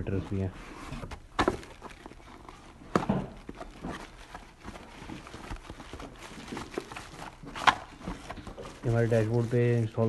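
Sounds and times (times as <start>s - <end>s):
cardboard and plastic rustling: 0.0s - 10.0s.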